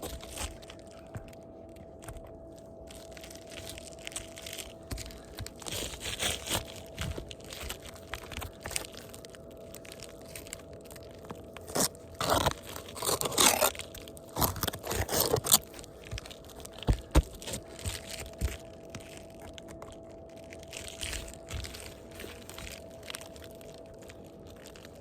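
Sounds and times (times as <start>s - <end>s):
shingles crunching and scraping: 0.0s - 25.0s.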